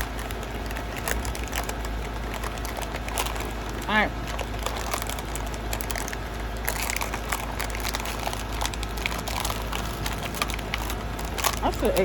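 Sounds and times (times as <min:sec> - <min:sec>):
low background hum: 0:00.0 - 0:12.0
seaweed snack crackling: 0:00.0 - 0:12.0.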